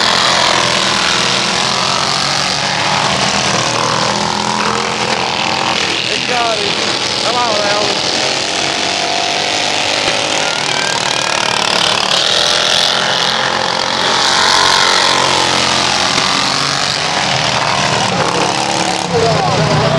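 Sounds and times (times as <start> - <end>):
lawn mower engines racing past: 0.0 - 19.9.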